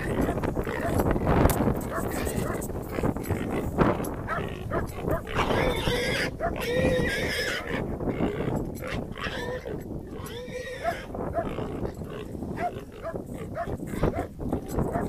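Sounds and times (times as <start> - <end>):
pig squealing: 0.0 - 1.1, 1.9 - 14.2.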